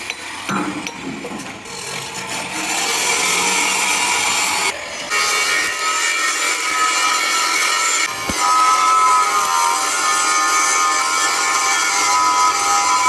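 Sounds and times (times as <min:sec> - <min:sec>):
power tool grinding steel: 0:00.0 - 0:13.0.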